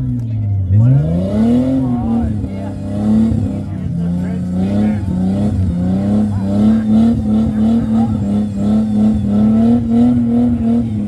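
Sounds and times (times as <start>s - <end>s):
engine revving hard: 0.8s - 11.0s.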